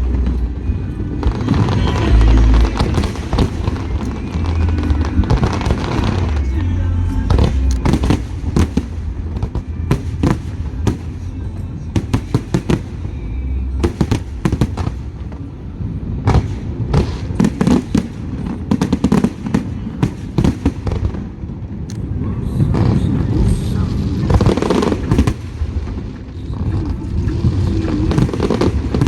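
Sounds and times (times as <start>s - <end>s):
low rumble: 0.0s - 18.7s, 20.7s - 29.0s
fireworks bangs and crackles: 0.0s - 29.0s.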